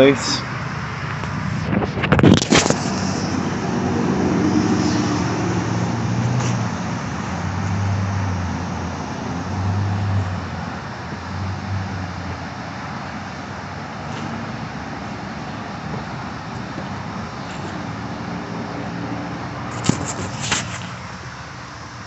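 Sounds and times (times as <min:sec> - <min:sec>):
road traffic rushing by: 0:00.0 - 0:22.0.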